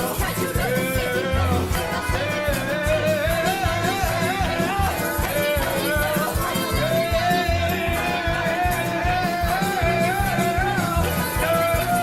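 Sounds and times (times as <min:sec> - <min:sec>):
accordion: 0:00.0 - 0:12.0
bass: 0:00.0 - 0:12.0
drums keeping a steady beat: 0:00.0 - 0:12.0.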